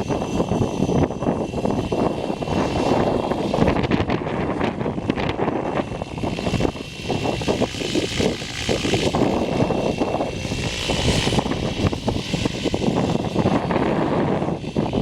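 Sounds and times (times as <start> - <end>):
gusty wind on microphone: 0.0 - 15.0
rc helicopter whine: 0.0 - 15.0.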